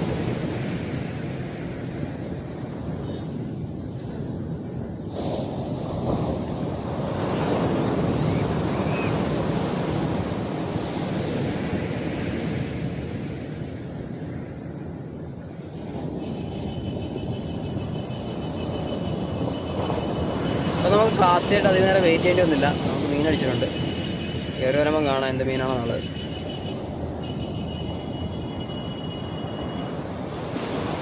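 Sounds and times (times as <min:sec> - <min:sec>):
sea waves breaking on shore: 0:00.0 - 0:31.0.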